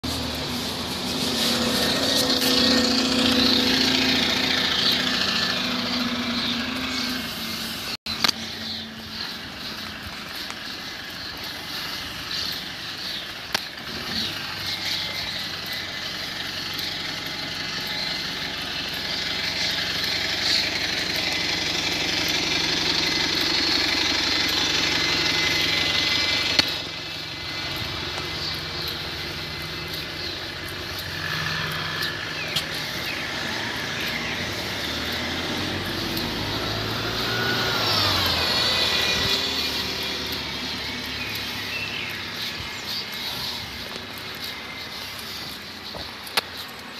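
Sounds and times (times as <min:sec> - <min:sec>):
engines and street noise rumble: 0:00.0 - 0:46.9.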